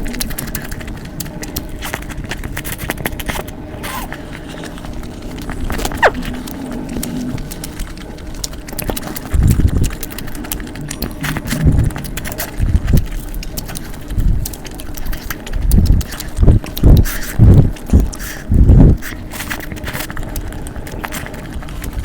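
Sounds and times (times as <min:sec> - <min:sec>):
close chewing and eating: 0:00.0 - 0:22.0
small wet clicks: 0:00.0 - 0:22.0.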